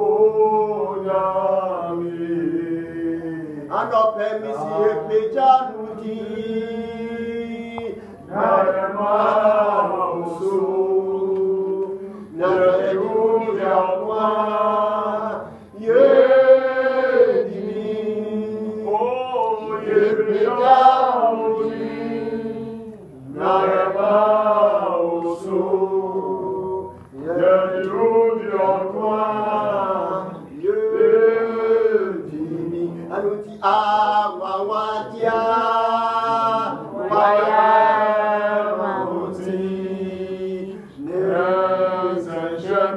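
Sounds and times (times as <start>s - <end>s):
man singing worship song: 0.0s - 42.9s.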